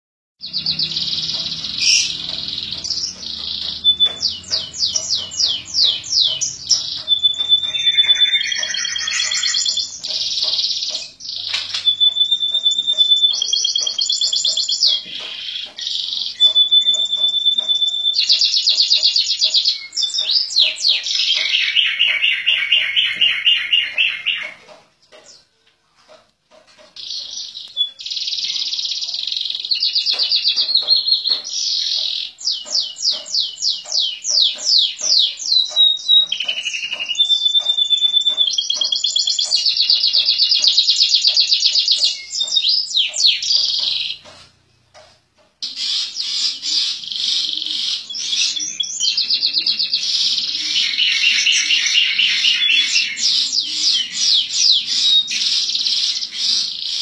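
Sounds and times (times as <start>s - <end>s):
canary singing: 0.4s - 57.0s.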